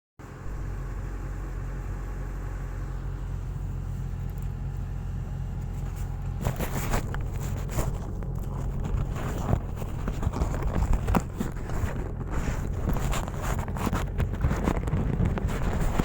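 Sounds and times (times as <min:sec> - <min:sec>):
excavator diesel engine running: 0:00.2 - 0:16.0.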